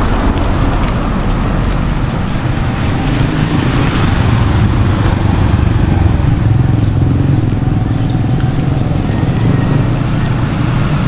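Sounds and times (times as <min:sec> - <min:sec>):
road noise hiss: 0:00.0 - 0:11.0
vehicle engine running: 0:00.0 - 0:11.0.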